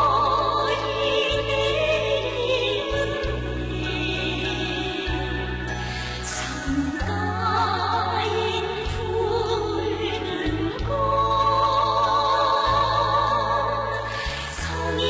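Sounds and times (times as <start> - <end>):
female vocal quartet singing: 0.0 - 15.0.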